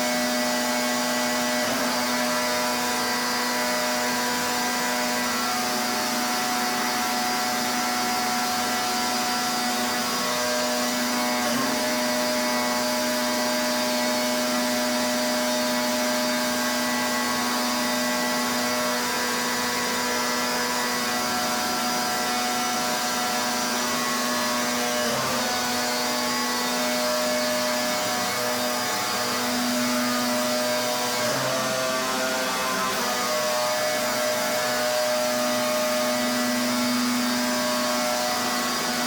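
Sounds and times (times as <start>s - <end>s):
pressure washer pump drone: 0.0s - 39.0s.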